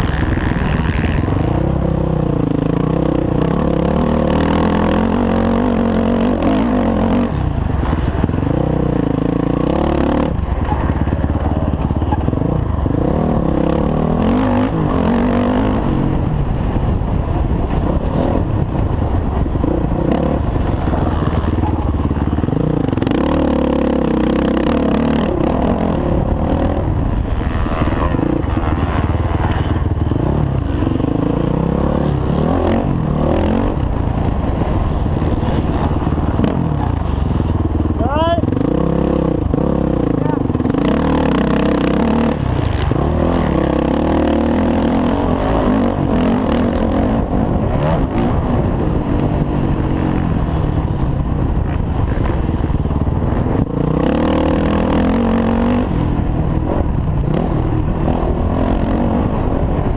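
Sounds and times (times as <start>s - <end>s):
dirt bike engine revving: 0.0s - 16.7s, 17.7s - 59.9s.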